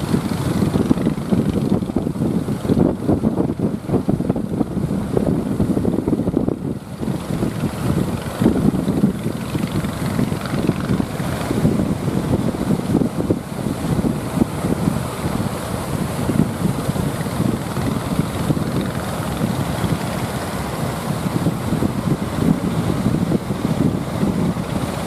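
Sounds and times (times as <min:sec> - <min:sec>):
surf washing: 0:00.0 - 0:25.0
wind buffeting microphone: 0:00.0 - 0:25.0.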